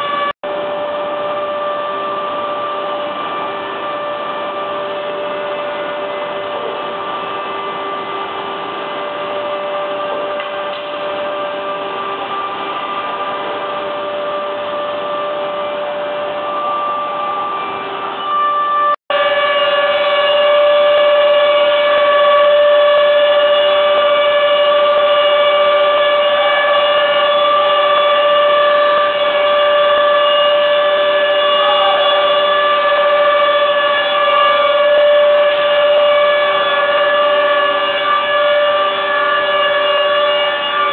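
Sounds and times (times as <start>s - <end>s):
mechanical hum: 0.0s - 40.9s
woodworking machine whining: 0.0s - 40.9s.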